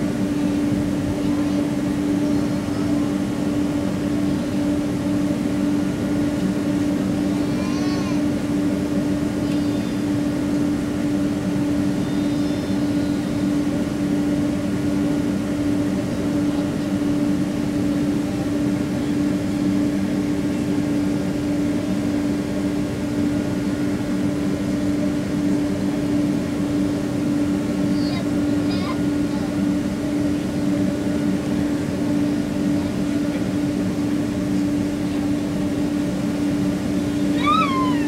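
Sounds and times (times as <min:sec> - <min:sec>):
jet engines droning in cabin: 0:00.0 - 0:38.0.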